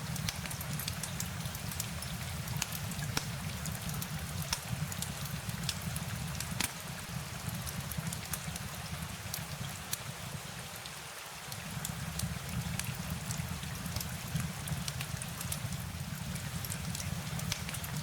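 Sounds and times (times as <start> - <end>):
rain rumble: 0.0 - 18.0
sharp raindrop ticks: 0.0 - 18.0.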